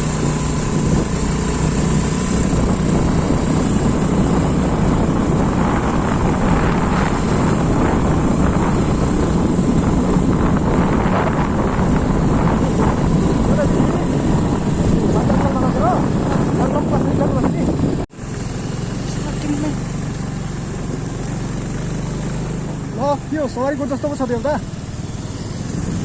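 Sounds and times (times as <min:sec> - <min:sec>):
wind rush on microphone: 0:00.0 - 0:18.1, 0:20.3 - 0:26.0
vehicle engine running: 0:00.0 - 0:26.0.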